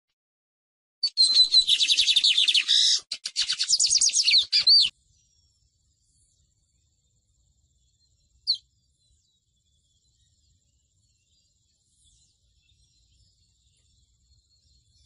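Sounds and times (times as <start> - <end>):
small songbird singing: 1.0 - 15.0.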